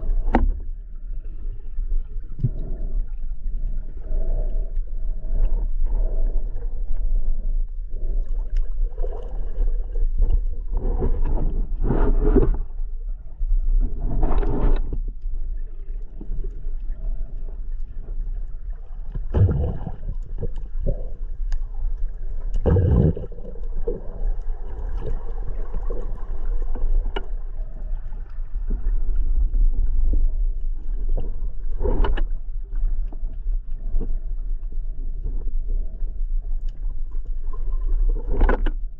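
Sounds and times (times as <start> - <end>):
low underwater rumble: 0.0 - 38.9.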